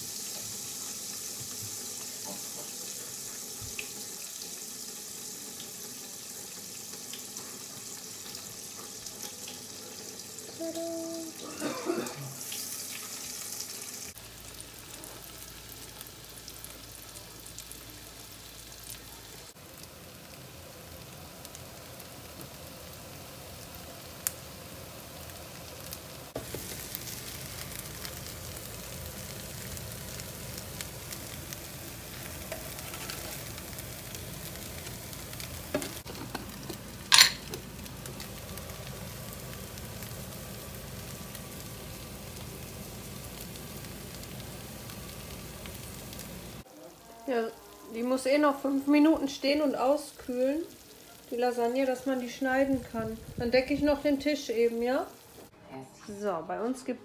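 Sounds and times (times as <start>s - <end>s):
patties sizzling in frying pan: 0.0s - 11.5s, 12.1s - 55.5s.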